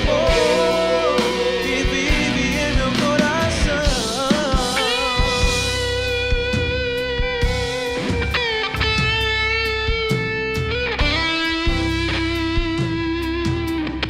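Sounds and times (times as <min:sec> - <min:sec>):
drums and bass: 0:00.0 - 0:14.0
electric guitar sustained notes: 0:00.0 - 0:14.0.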